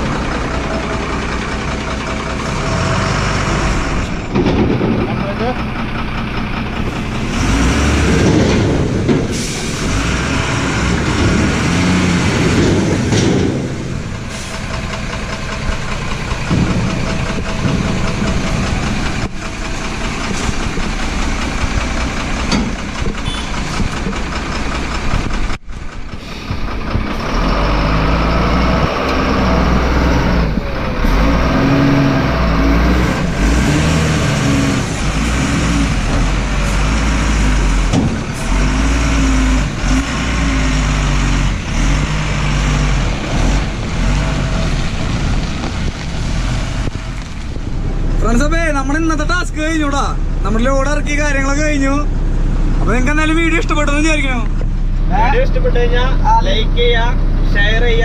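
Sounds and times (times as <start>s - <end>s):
diesel truck engine running: 0.0s - 58.0s
truck engine revving: 0.0s - 58.0s.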